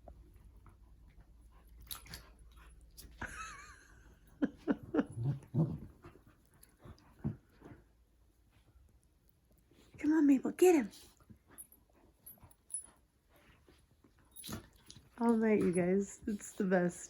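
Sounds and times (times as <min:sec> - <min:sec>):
dogs panting and scuffling: 0:00.0 - 0:03.4, 0:04.3 - 0:17.0
dogs play-growling and yipping: 0:00.0 - 0:10.0, 0:10.9 - 0:16.5.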